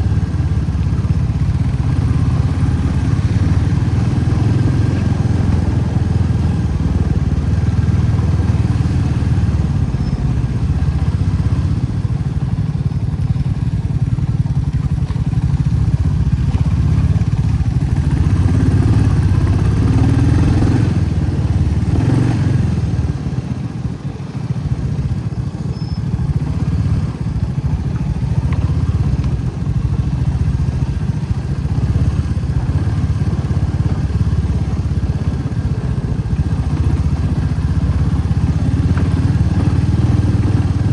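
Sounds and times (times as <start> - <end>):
motorcycle engine rumble: 0.0 - 40.9.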